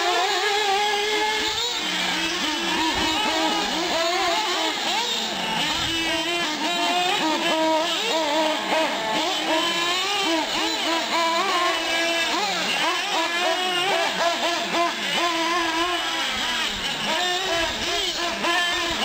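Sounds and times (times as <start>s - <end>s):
small engines whining: 0.0s - 19.0s.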